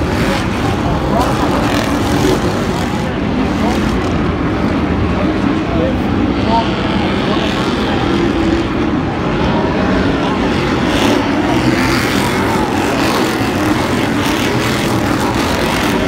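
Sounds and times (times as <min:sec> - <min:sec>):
racing truck engines revving: 0:00.0 - 0:16.0.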